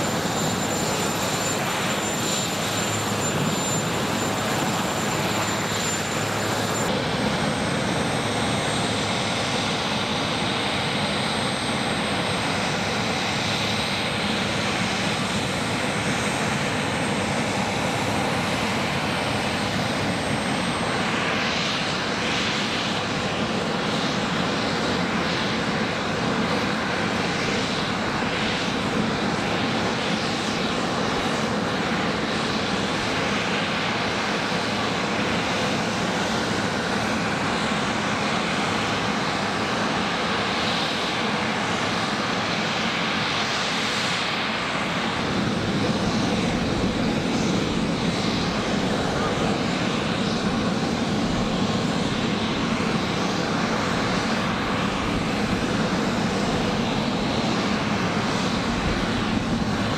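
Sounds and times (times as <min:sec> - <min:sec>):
aircraft turbine engines running: 0:00.0 - 0:59.9
high-pitched turbine whine: 0:00.0 - 0:59.9.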